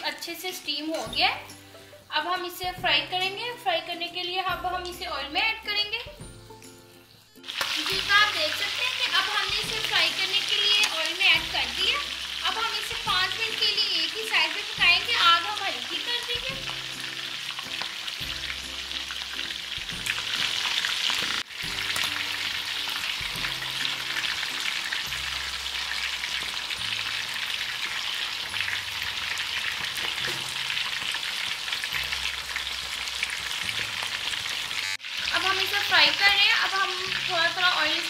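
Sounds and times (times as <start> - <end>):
oil sizzling: 0.0 - 38.0
soft background music: 0.0 - 38.0.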